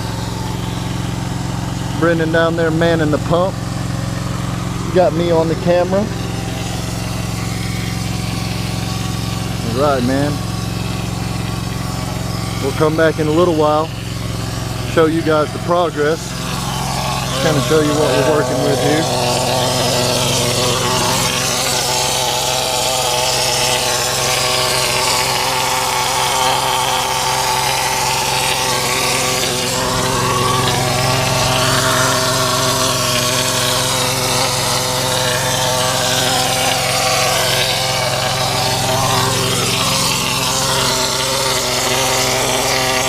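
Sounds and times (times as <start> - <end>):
concrete pump engine running: 0.0 - 43.0.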